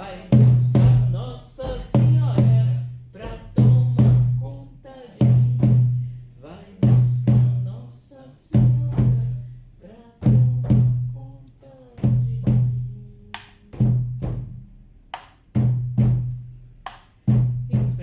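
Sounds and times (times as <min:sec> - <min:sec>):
frame drum beats: 0:00.0 - 0:09.6, 0:10.2 - 0:18.0.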